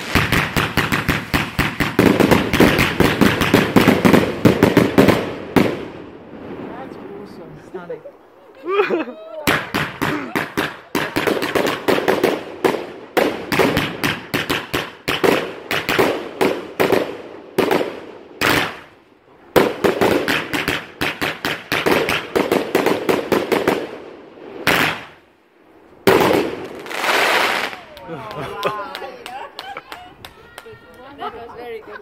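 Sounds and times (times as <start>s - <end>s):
fireworks banging: 0.0s - 8.4s, 9.4s - 31.2s.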